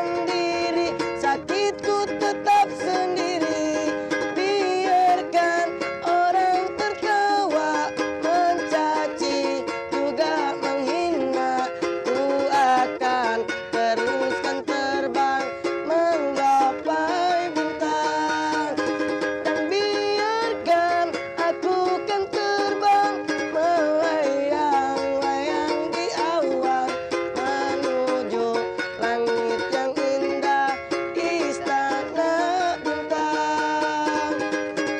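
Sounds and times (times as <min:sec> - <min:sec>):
acoustic guitar strumming: 0:00.0 - 0:34.9
person singing a pop song: 0:00.0 - 0:34.9.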